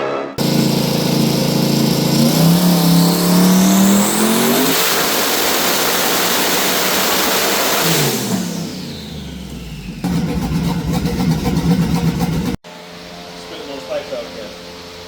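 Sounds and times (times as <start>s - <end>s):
rising turbo whine: 0.0s - 15.0s
engine revving at full throttle: 0.4s - 12.6s.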